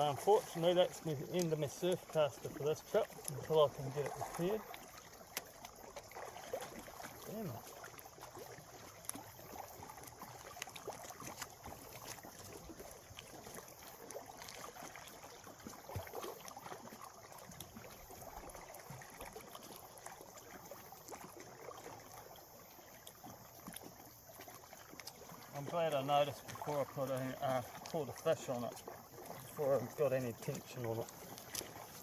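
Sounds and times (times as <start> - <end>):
gentle water at shoreline: 0.0 - 32.0.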